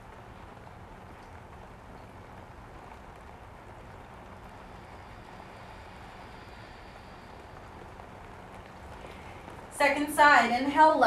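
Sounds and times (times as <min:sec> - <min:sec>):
faint low hum: 0:00.0 - 0:11.0
room hiss: 0:00.0 - 0:11.0.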